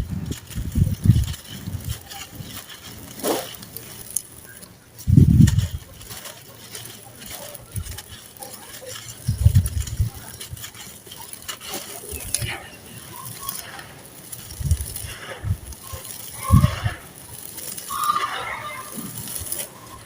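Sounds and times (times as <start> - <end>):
gritty crumbling crackle: 0.0 - 20.0.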